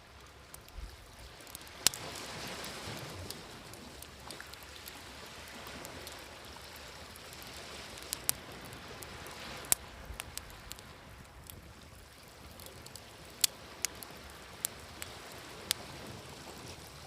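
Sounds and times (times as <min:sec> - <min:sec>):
campfire crackling and popping: 0:00.0 - 0:17.0
sea waves: 0:00.0 - 0:17.0.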